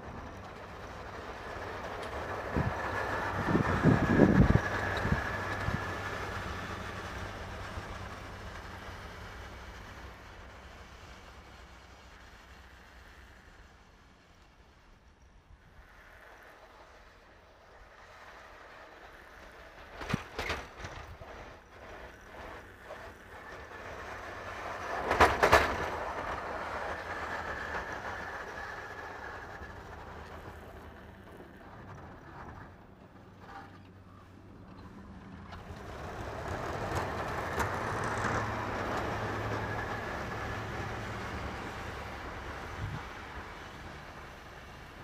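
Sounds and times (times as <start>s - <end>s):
truck engine running under load: 0.0s - 14.9s, 18.0s - 45.0s
snow rushing off plow blade: 0.0s - 33.2s, 34.4s - 45.0s.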